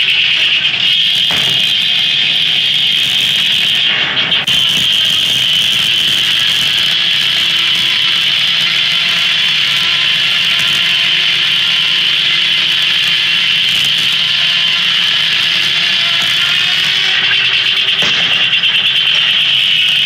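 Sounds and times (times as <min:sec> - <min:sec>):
circular saw whining through log: 0:00.0 - 0:20.0.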